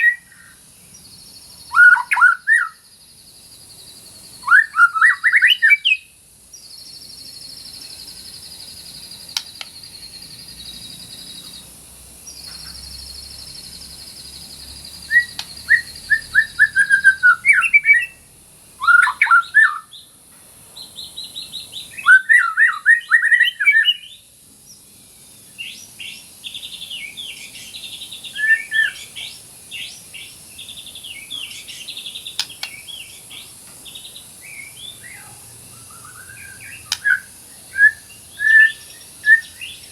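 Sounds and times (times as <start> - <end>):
bird singing trills and whistles: 0.0 - 11.7, 12.3 - 20.2, 20.8 - 39.9.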